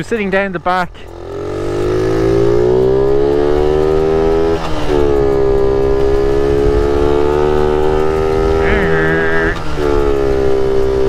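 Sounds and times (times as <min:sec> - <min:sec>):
motorcycle engine revving: 0:00.9 - 0:11.0.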